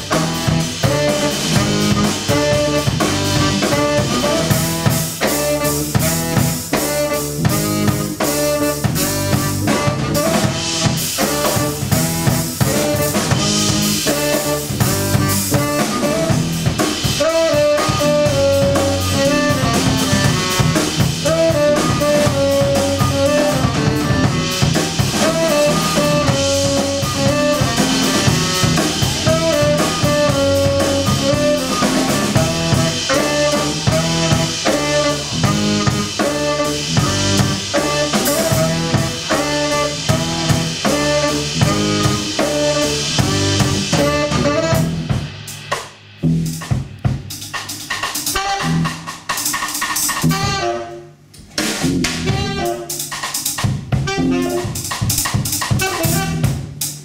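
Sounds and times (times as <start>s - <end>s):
saxophone melody: 0.0s - 45.2s, 48.3s - 49.1s, 50.2s - 51.2s, 51.8s - 53.2s, 54.0s - 56.6s
drum kit: 0.0s - 57.0s
electric bass: 0.0s - 57.0s.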